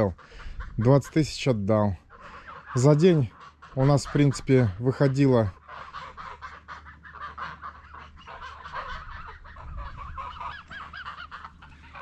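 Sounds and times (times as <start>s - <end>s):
geese honking and cackling: 0.0s - 12.0s.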